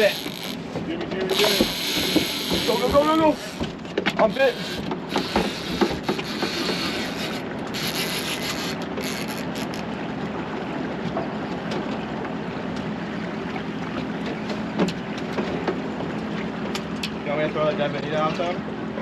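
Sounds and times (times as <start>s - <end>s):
water washing against boat: 0.0s - 19.0s
wind: 0.0s - 19.0s.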